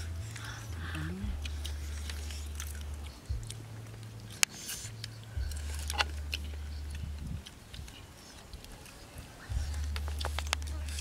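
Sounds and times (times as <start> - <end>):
background music with bass line: 0.0 - 8.0, 9.5 - 11.0
chewing and crunching: 0.0 - 11.0.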